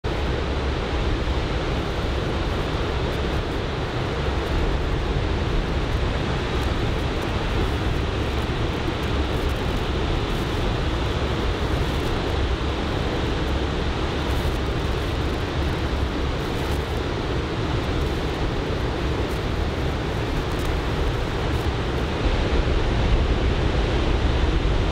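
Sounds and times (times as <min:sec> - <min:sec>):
wind rumbling on microphone: 0:00.0 - 0:24.9.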